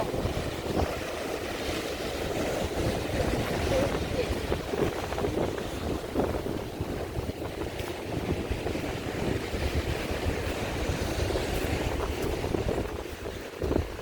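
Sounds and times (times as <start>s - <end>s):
rushing hiss of wind: 0.0s - 14.0s
wind buffeting microphone: 0.0s - 14.0s.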